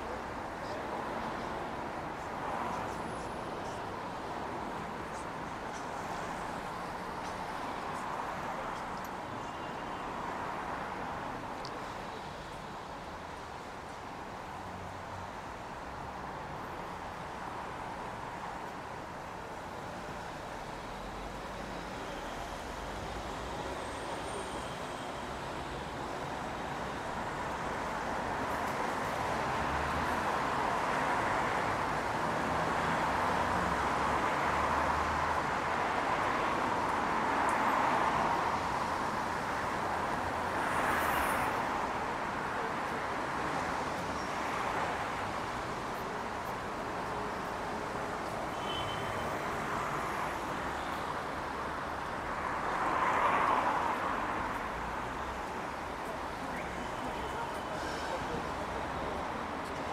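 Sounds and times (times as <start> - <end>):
passing cars: 10.1 - 59.9.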